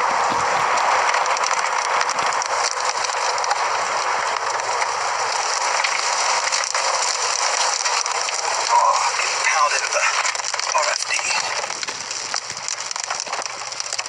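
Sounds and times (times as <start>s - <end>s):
heavy rain and wind on vehicle: 0.0s - 14.0s.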